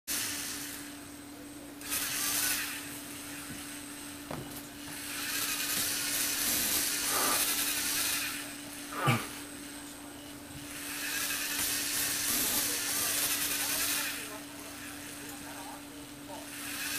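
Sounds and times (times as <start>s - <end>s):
toy motor and gears whirring: 0.1s - 1.0s, 1.8s - 9.7s, 10.6s - 16.9s
steady low hum: 0.1s - 16.9s.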